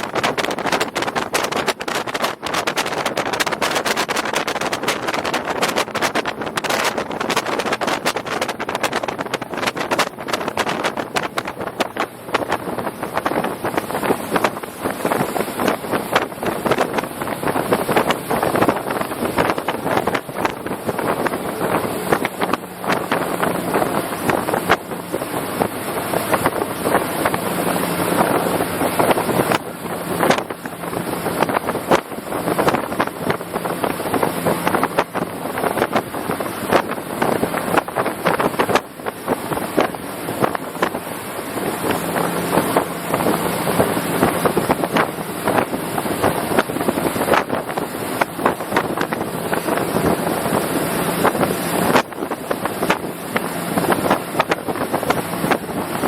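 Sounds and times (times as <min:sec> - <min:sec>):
boat engine humming: 0:00.0 - 0:56.0
wind rushing over microphone: 0:00.0 - 0:56.0.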